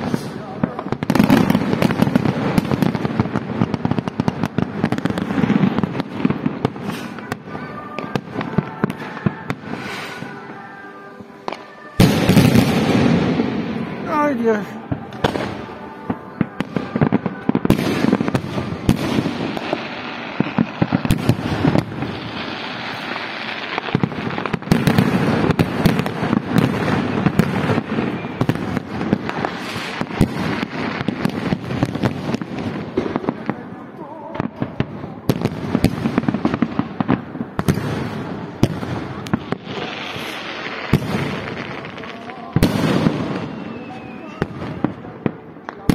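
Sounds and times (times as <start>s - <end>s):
continuous dense noise: 0.0s - 45.9s
fireworks bursting: 0.0s - 45.9s.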